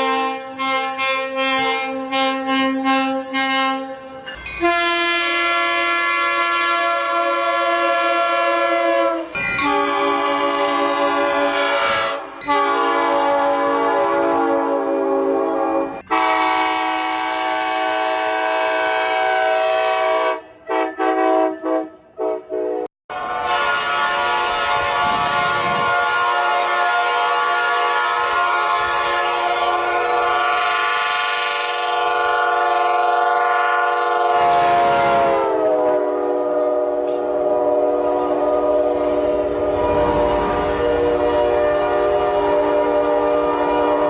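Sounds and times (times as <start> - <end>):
locomotive air horn chord: 0.0 - 44.0.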